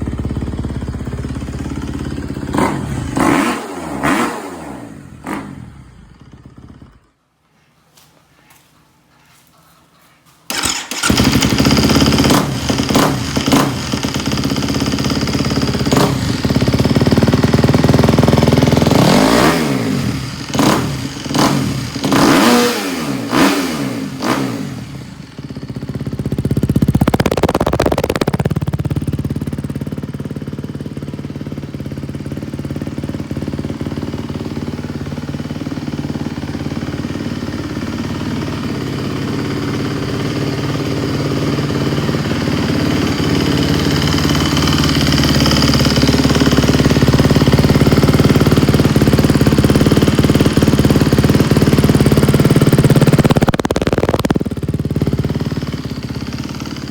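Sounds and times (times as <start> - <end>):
dirt bike engine revving: 0.0 - 7.0, 10.5 - 29.4, 33.4 - 56.9.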